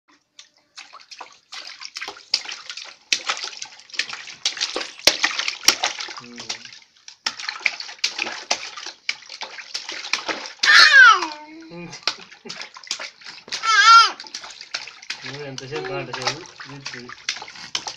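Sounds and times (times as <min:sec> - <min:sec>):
baby splashing water in tub: 0:00.1 - 0:17.9.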